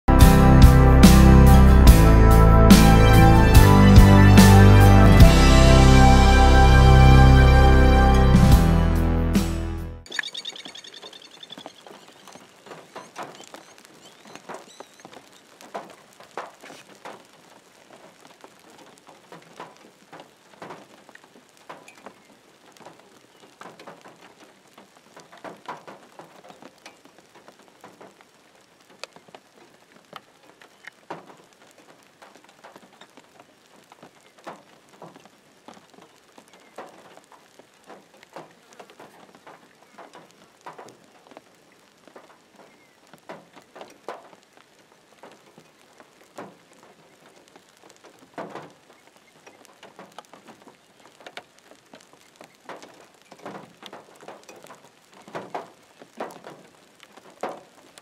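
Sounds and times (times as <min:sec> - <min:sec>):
light rain pattering: 0:00.1 - 0:08.5, 0:10.0 - 0:58.0.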